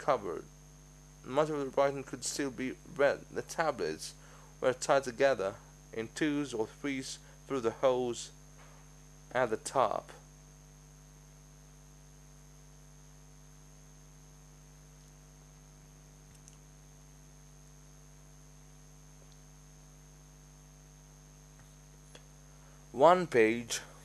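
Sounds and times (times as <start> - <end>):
faint mains hum with whine: 0.0 - 24.0.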